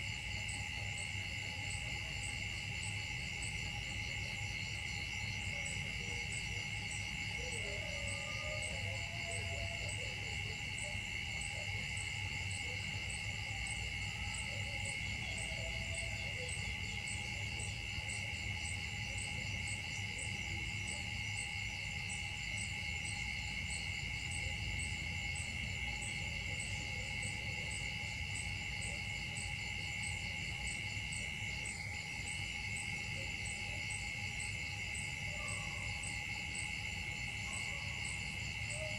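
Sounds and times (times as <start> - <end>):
insects droning shrilly: 0.0 - 38.9.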